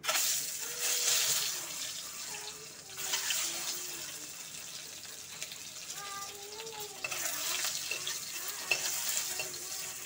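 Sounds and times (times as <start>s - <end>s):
eggs sizzling in hot oil: 0.0s - 10.0s.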